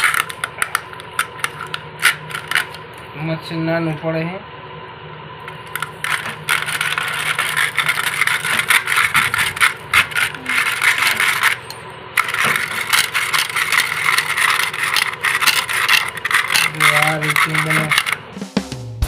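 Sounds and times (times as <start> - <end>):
hand-cranked beater rattling in bowl: 0.0 - 2.8, 5.7 - 18.2.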